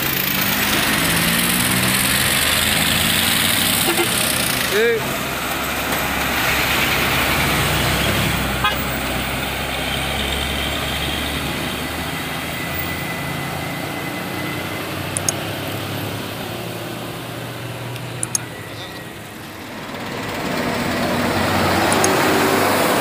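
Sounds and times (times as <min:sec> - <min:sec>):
truck diesel engine passing: 0:00.0 - 0:23.0.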